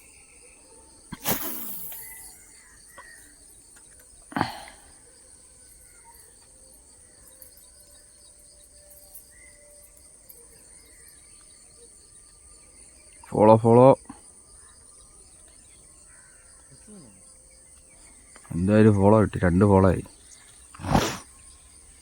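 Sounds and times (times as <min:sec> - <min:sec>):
insects buzzing: 0:00.0 - 0:22.0.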